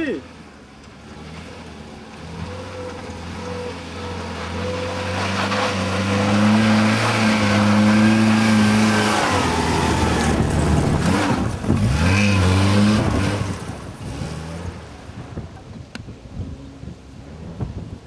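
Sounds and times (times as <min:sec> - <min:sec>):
car engine revving under load: 0:00.3 - 0:18.0.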